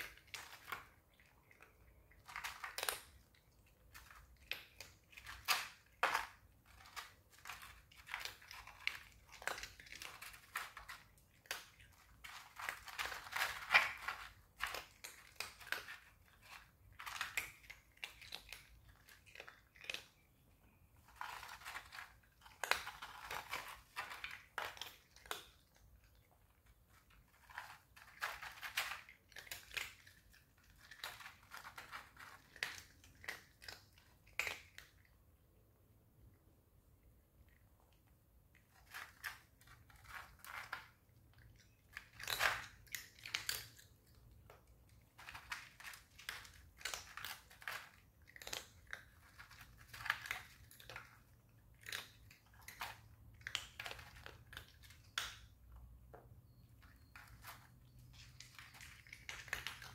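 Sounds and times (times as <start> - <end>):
cats crunching food: 0.0 - 59.9.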